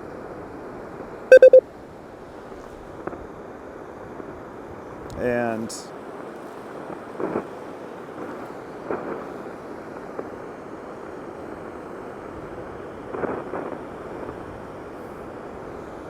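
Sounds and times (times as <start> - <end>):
wind: 2.2 - 16.0.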